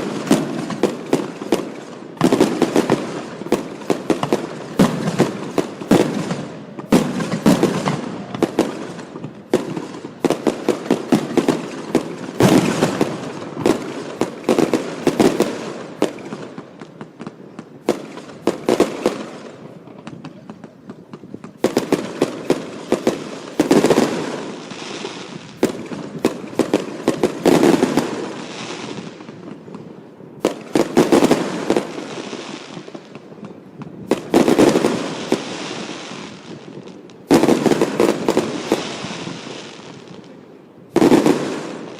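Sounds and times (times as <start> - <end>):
fireworks crackling: 0.0 - 41.9.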